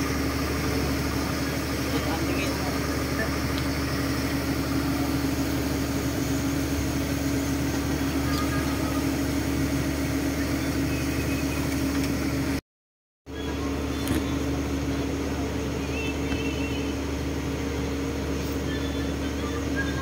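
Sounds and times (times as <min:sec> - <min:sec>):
boat engine droning: 0:00.0 - 0:12.6, 0:13.3 - 0:20.0.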